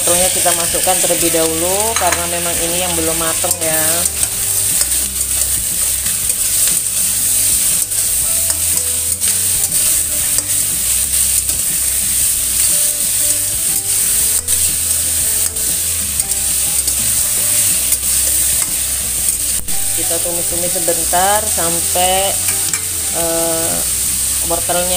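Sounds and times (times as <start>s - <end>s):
spatula scraping a wok: 0.0s - 24.9s
vegetables sizzling in oil: 0.0s - 24.9s.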